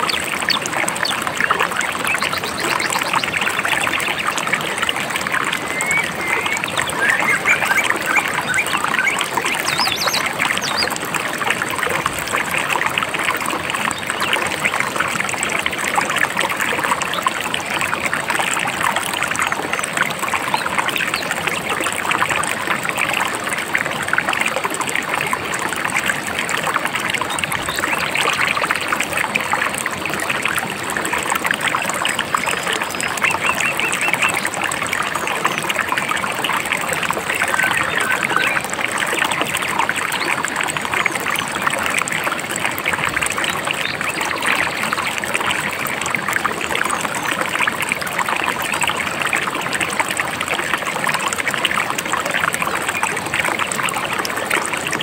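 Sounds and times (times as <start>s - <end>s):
shallow river babbling: 0.0s - 55.0s.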